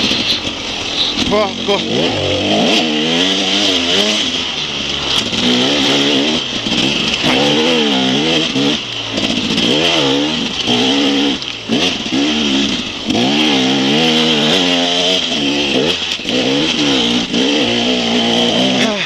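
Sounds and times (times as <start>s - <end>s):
motorcycle engine revving hard: 0.0s - 19.0s.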